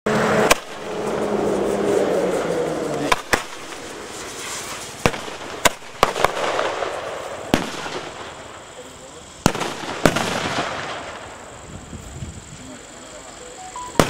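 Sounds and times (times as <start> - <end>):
firecrackers banging: 0.1 - 14.0.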